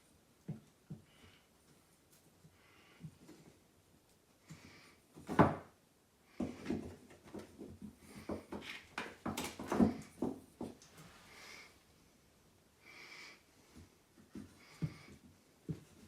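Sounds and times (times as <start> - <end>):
small irregular knocks and clatters: 0.0 - 11.1, 13.6 - 16.0.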